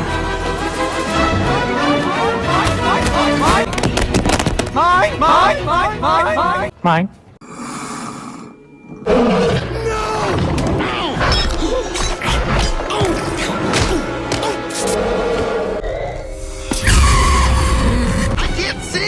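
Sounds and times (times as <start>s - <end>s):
dramatic orchestral score: 0.0s - 6.7s, 10.0s - 19.0s.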